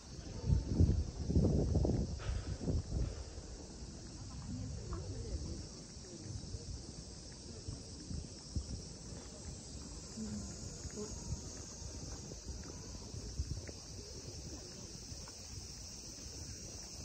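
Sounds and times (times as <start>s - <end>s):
cicadas droning: 0.0s - 17.0s
faint distant voices: 0.0s - 17.0s
footsteps on paved path: 0.1s - 17.0s.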